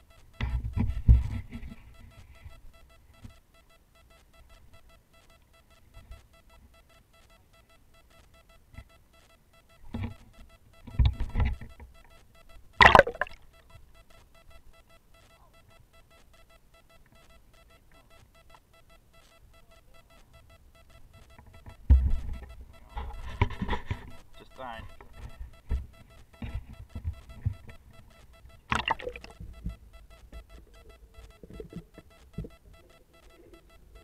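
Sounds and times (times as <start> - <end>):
faint steady electronic tone: 0.0 - 34.0.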